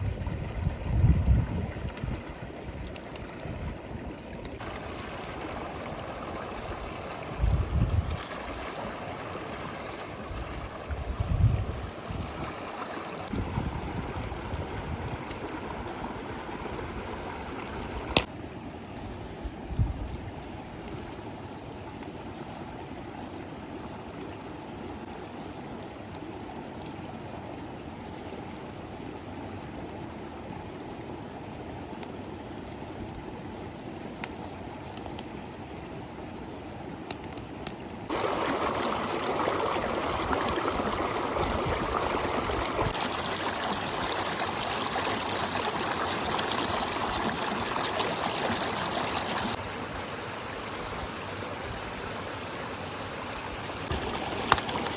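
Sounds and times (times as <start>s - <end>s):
river water flowing over stones: 0.0s - 54.9s.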